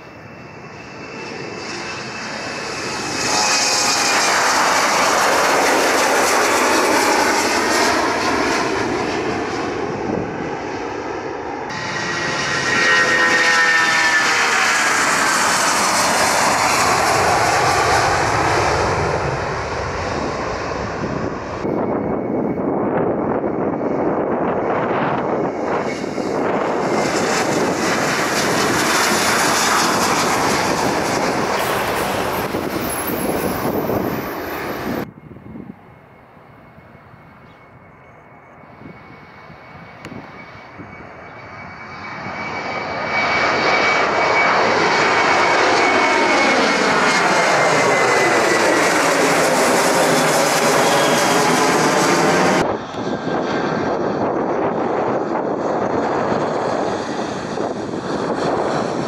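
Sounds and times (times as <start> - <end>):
jet engine high whine: 0.0 - 59.0
jet engine roar: 0.0 - 59.0.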